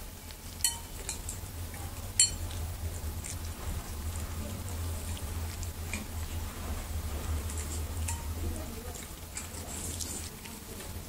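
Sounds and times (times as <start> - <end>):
cat chewing and licking: 0.0 - 11.0.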